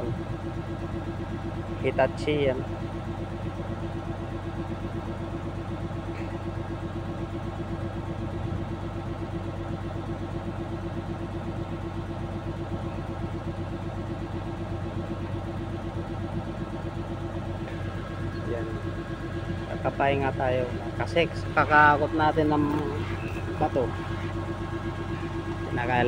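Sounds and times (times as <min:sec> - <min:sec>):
excavator diesel engine idling: 0:00.0 - 0:26.0.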